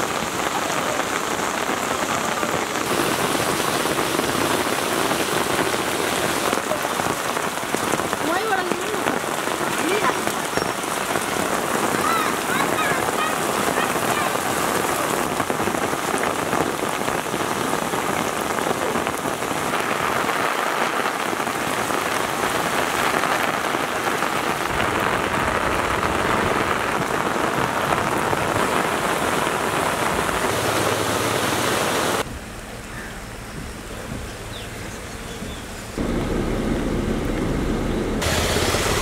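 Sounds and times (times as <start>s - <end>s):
heavy rain on water and ground: 0.0s - 39.0s.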